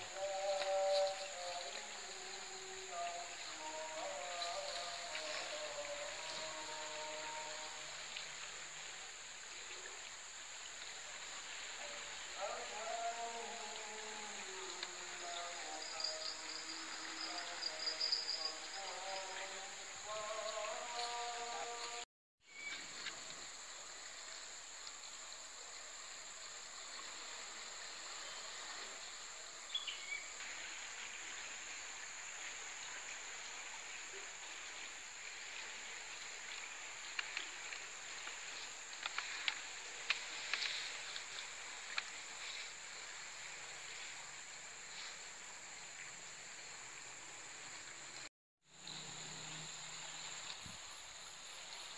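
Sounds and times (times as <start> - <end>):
insects droning: 0.0 - 51.9
soft outdoor hiss: 0.0 - 51.9.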